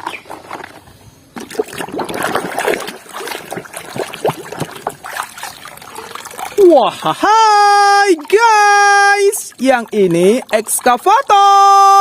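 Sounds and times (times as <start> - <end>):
water trickling and splashing: 0.5 - 12.0.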